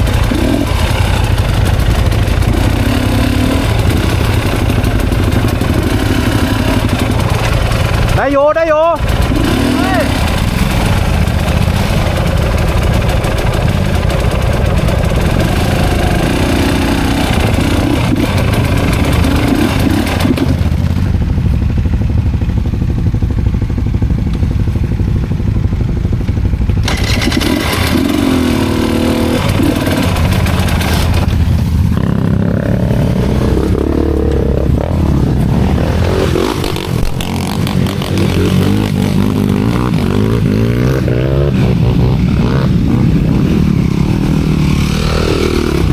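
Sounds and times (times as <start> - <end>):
clatter and scraping: 0.0 - 8.2, 9.0 - 21.1, 26.7 - 45.9
dirt bike engine revving: 0.0 - 45.9.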